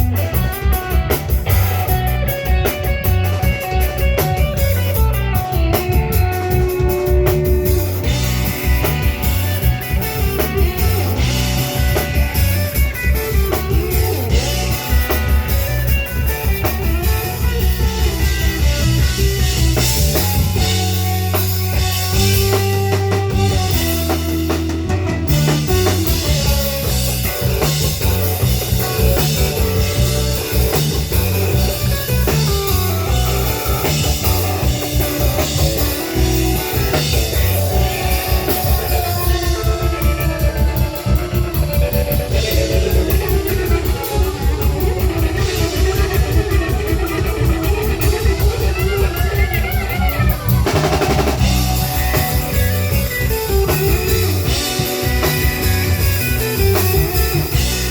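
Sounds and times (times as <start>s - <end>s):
bass guitar: 0.0s - 57.9s
drum kit beat: 0.0s - 57.9s
guitar: 0.0s - 57.9s.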